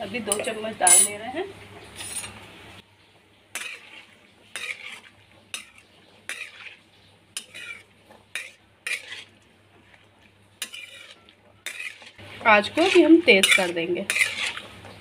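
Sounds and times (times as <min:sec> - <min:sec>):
metal spatula scraping a wok: 0:00.2 - 0:01.2, 0:01.9 - 0:02.4, 0:03.5 - 0:15.0.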